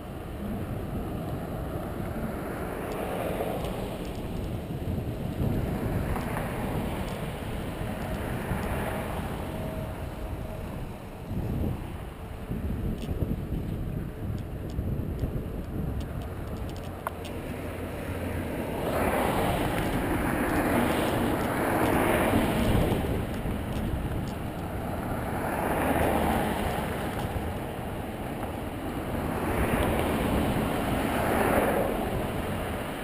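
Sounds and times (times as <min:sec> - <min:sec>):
cars passing: 0:00.0 - 0:33.0
wind rumble on microphone: 0:00.0 - 0:33.0.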